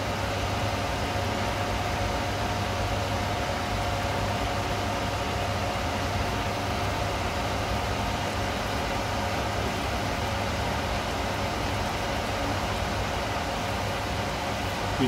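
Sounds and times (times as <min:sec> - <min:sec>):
machine hum and fan hiss: 0:00.0 - 0:15.0.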